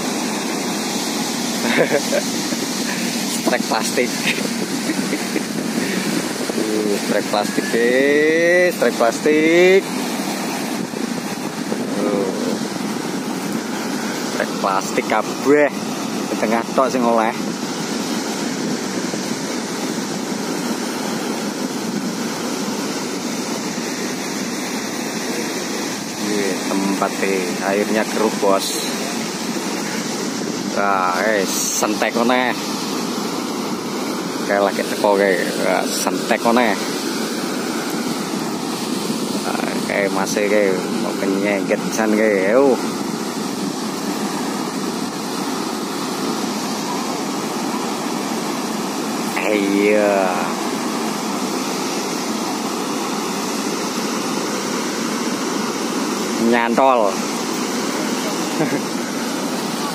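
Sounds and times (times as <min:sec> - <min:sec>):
floodwater rushing through gates: 0:00.0 - 0:59.9.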